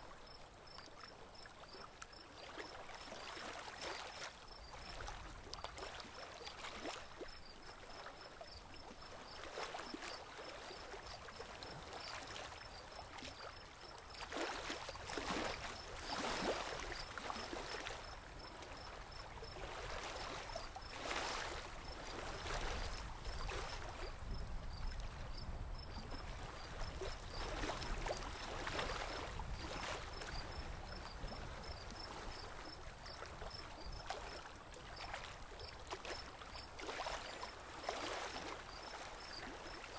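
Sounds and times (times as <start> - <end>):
water swishing around boat: 0.0 - 39.9.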